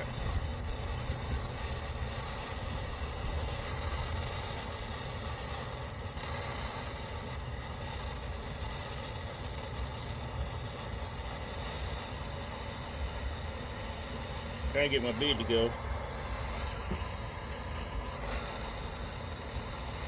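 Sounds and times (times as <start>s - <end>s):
torch flame rushing: 0.0s - 20.0s.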